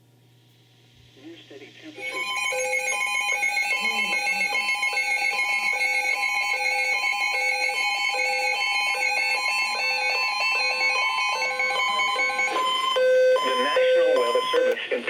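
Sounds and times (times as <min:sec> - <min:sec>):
electronic alarm alternating tones: 0:02.0 - 0:14.8
steady shrill tone: 0:02.0 - 0:14.8.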